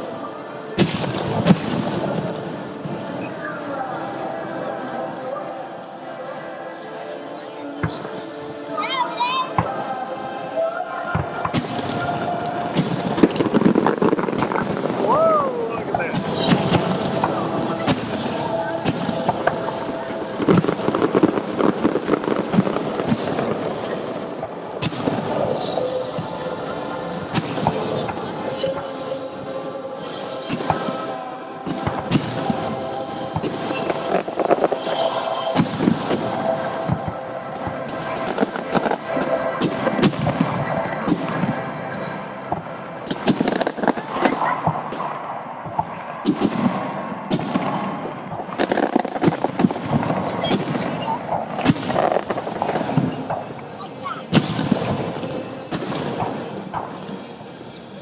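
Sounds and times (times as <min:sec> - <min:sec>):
fireworks crackling and banging: 0:00.7 - 0:03.7, 0:11.2 - 0:29.1, 0:30.5 - 0:57.6.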